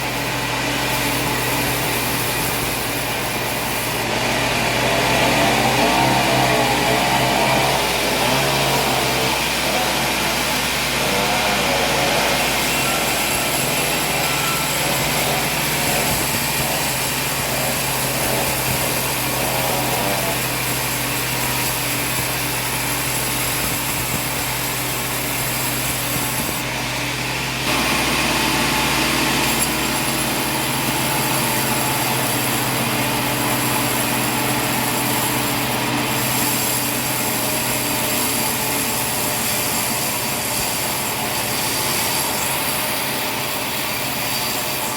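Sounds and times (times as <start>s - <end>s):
sawmill machinery hum: 0.0s - 44.9s.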